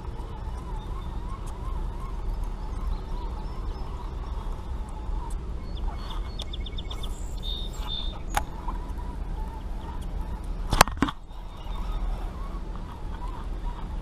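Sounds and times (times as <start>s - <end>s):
bird chirps: 0.0s - 14.0s
birds calling: 0.0s - 14.0s
low rumble: 0.0s - 14.0s.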